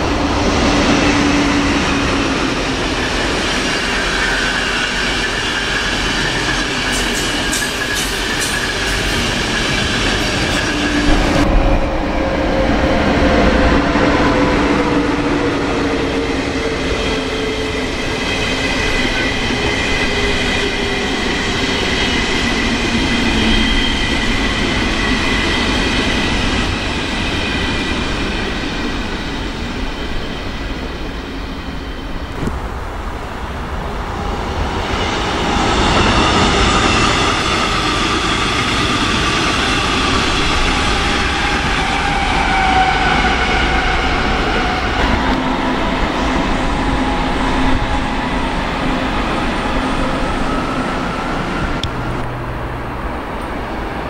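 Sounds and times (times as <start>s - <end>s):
trains rumbling past on rails: 0.0s - 54.0s.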